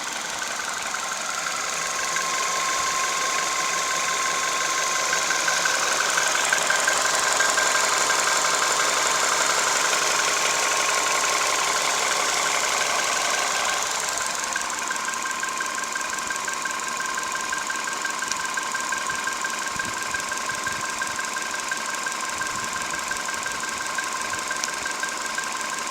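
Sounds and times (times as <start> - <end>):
car engine idling with metallic knock: 0.0 - 25.9.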